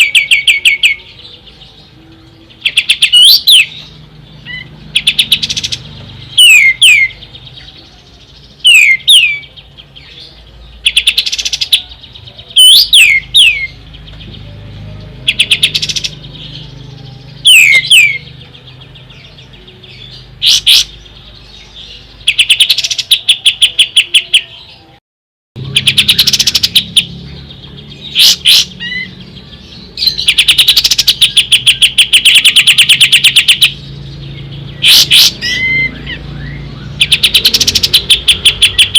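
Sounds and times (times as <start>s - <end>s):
songbird whistles and trills: 0.0s - 14.5s, 15.2s - 24.9s, 25.6s - 38.9s.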